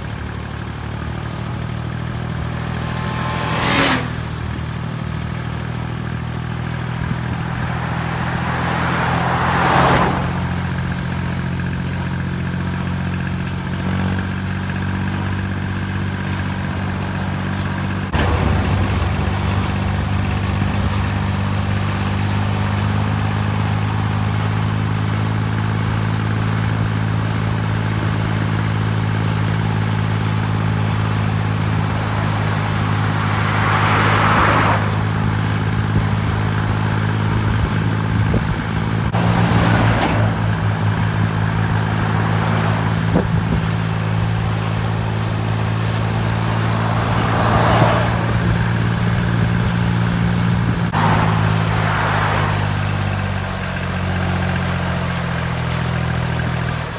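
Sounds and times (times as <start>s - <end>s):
tractor diesel engine running: 0.0s - 56.9s
passing cars rushing by: 0.9s - 12.4s, 15.8s - 24.8s, 30.4s - 56.9s.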